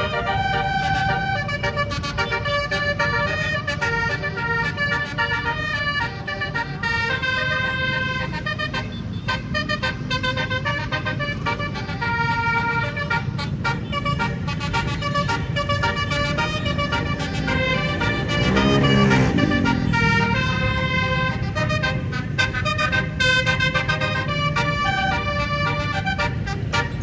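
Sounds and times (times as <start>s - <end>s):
musical air horn melody: 0.0s - 27.0s.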